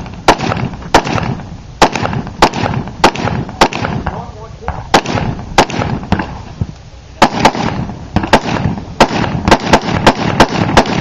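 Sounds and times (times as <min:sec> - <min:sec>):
rapid gunshots: 0:00.0 - 0:06.4, 0:07.2 - 0:11.0.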